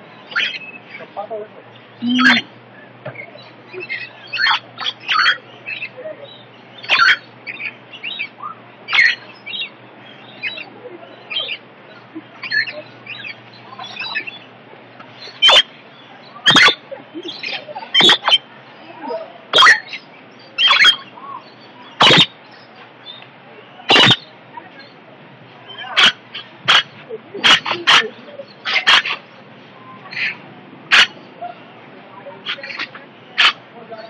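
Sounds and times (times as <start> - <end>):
birds chirping and squawking: 0.0 - 34.0.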